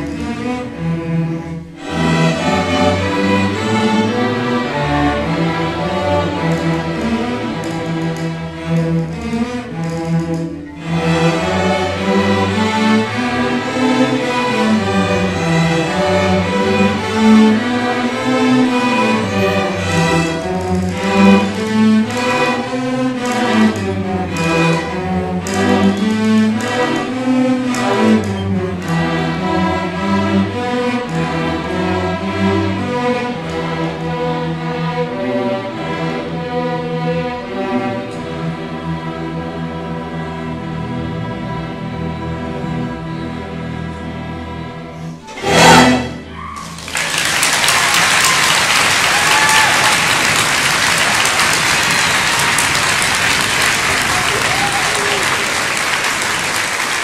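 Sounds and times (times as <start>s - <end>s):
string orchestra playing: 0.0s - 57.0s.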